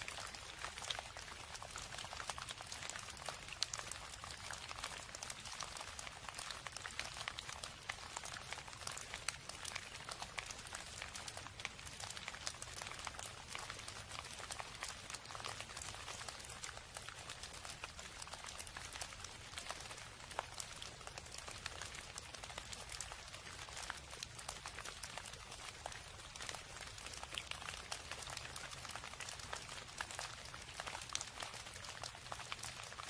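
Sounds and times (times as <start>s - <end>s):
steady rain patter: 0.0s - 33.0s.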